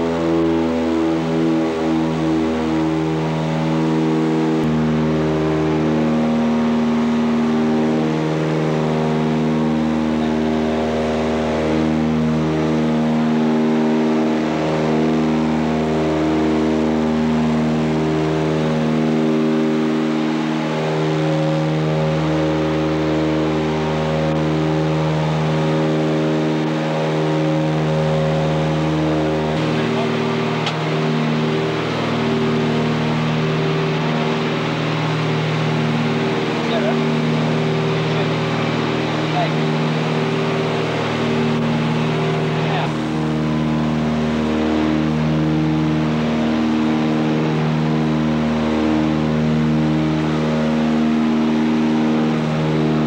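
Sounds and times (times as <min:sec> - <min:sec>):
twin piston engines droning: 0:00.0 - 0:53.0.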